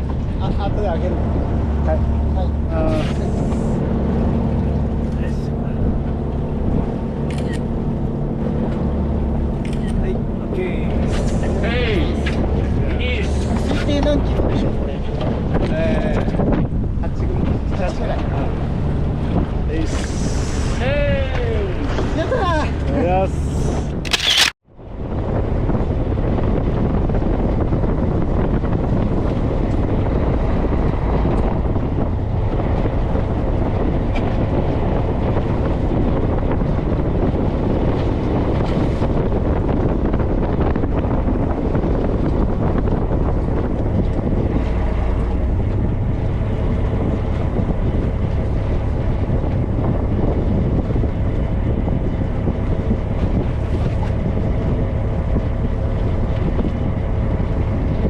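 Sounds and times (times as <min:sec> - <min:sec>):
boat engine rumble: 0:00.0 - 0:58.0
wind buffeting microphone: 0:00.0 - 0:58.0.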